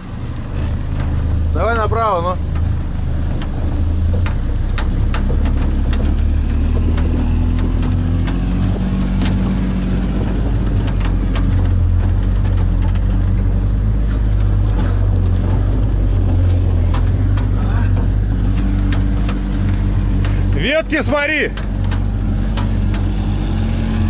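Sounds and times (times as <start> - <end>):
vehicle engine running: 0.0 - 24.0
branches knocking on vehicle body: 0.5 - 24.0.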